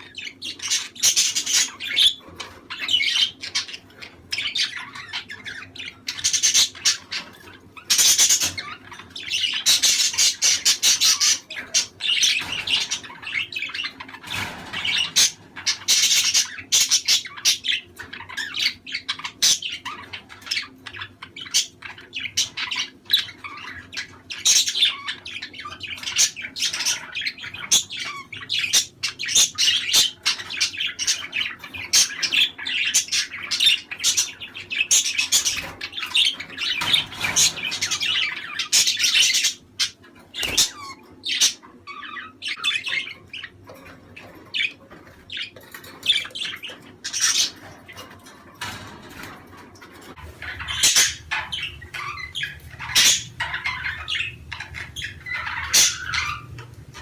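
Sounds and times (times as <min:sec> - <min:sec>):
budgerigars chattering: 0:00.0 - 0:57.0.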